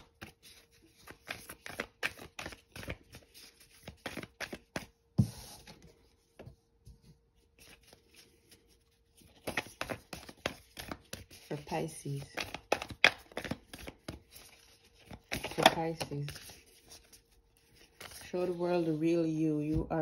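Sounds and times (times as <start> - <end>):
cards being shuffled: 0.0 - 5.8, 7.5 - 19.0.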